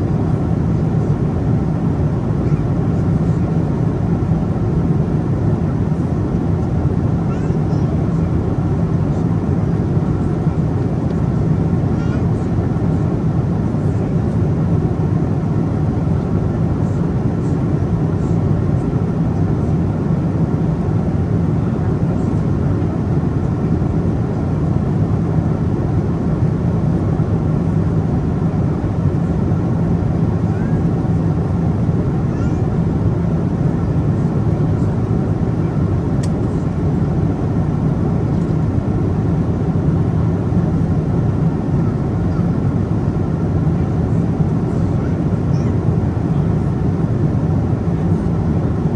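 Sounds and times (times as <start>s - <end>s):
airplane cabin rumble: 0.0s - 48.9s.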